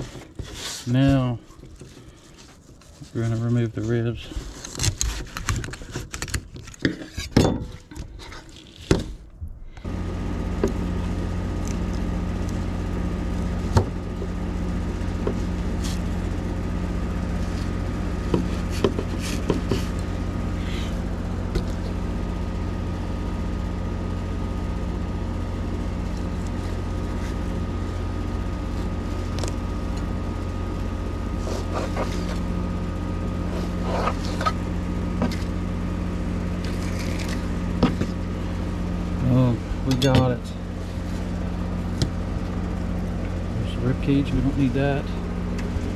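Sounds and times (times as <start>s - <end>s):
electric motor hum: 8.0s - 45.9s.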